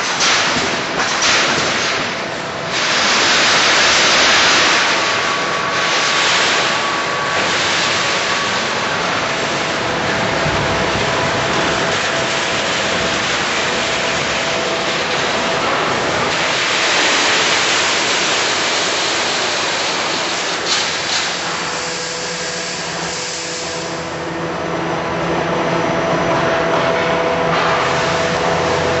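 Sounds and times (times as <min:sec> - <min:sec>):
welding machine running with hiss: 0:00.0 - 0:29.0.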